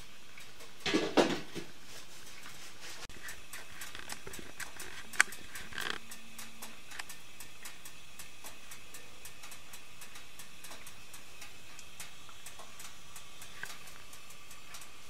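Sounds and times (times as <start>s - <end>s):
faint clicking and crackling: 0.0s - 0.9s, 2.2s - 15.0s
steady hiss: 0.0s - 15.0s.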